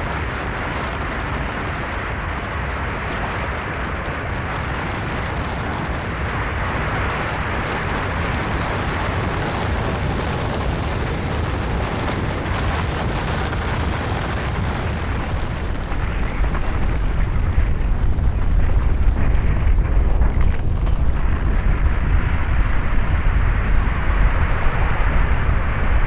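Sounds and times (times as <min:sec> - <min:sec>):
avalanche rumble: 0:00.0 - 0:26.0.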